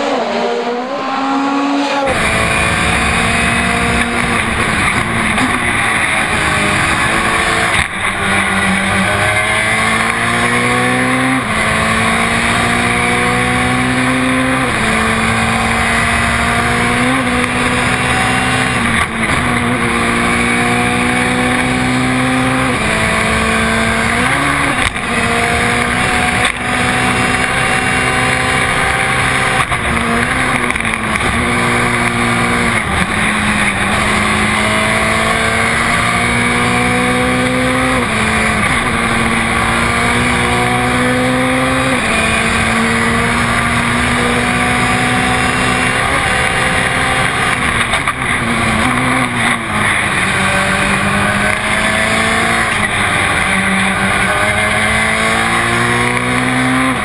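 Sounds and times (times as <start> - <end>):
rally car engine at full throttle: 0.0 - 57.0
tyre and road noise: 0.0 - 57.0.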